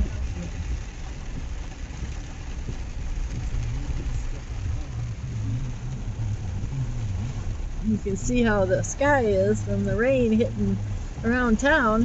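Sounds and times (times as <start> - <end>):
heavy rain hiss: 0.0 - 12.0
truck engine running low hum: 0.0 - 12.0.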